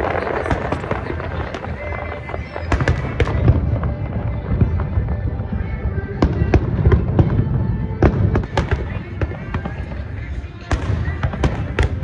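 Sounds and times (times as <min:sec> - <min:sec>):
fireworks rumbling: 0:00.0 - 0:12.0
sharp firework bangs: 0:00.0 - 0:12.0.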